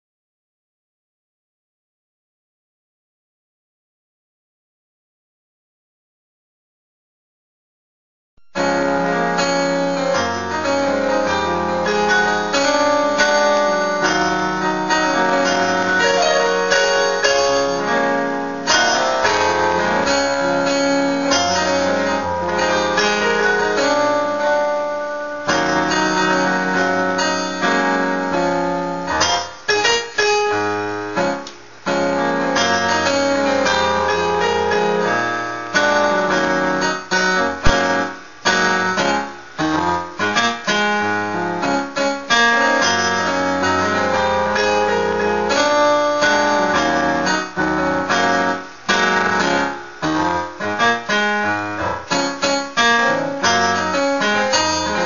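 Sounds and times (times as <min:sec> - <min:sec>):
electronic keyboard chords: 0:08.4 - 0:55.0.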